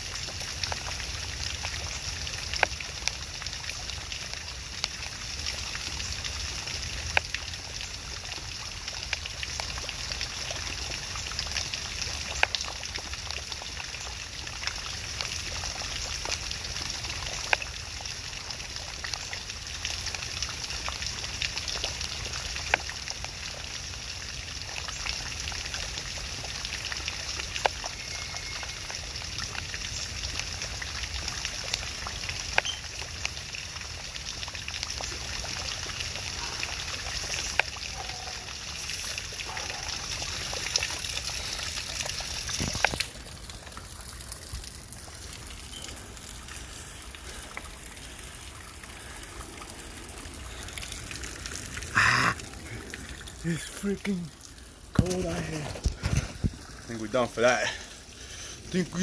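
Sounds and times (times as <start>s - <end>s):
trickling running water: 0.0s - 59.0s.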